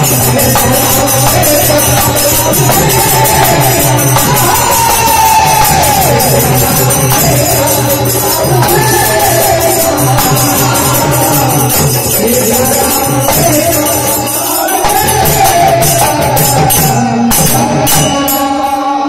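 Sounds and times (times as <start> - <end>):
hand drum rhythm: 0.0 - 18.6
jingling hand percussion: 0.0 - 19.0
men singing into microphones: 0.0 - 19.0.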